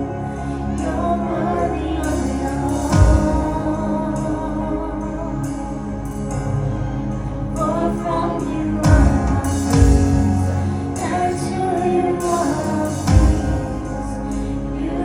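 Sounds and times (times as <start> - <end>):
person singing: 0.0 - 6.0, 7.6 - 15.0
sustained keyboard chords: 0.0 - 15.0.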